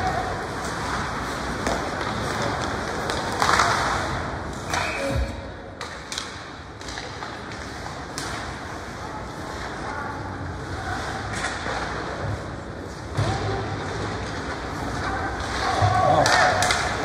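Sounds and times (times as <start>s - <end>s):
crowd noise in indoor rink: 0.0s - 17.0s.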